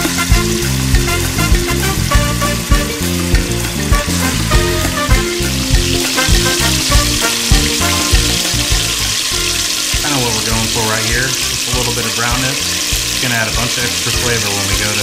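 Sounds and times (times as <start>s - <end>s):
background music with steady beat: 0.0s - 15.0s
meat sizzling in a pot: 0.0s - 15.0s.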